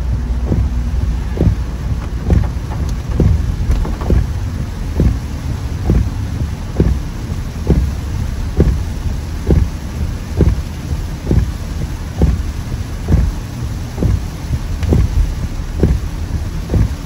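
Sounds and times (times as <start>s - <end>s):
heavy rain: 0.0s - 17.0s
tyres rumbling on wet road: 0.0s - 17.0s
windscreen wipers thumping: 0.0s - 17.0s.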